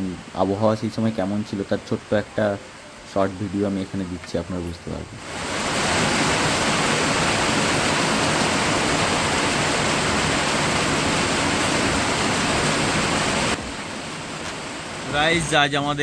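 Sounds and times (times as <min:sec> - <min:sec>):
torrential rain: 0:00.0 - 0:16.0.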